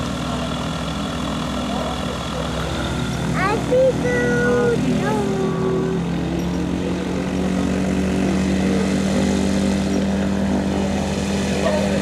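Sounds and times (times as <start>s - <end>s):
engine and propeller running: 0.0s - 12.0s.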